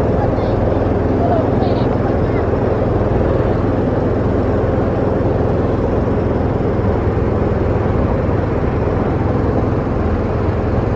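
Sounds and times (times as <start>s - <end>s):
boat engine running: 0.0s - 10.9s.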